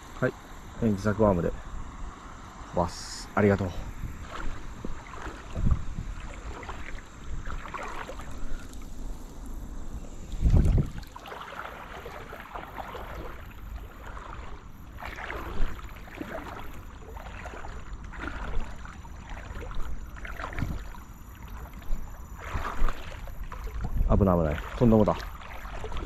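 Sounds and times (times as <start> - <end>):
wind rumbling on microphone: 0.8 - 26.0
water sloshing around legs: 2.9 - 26.0.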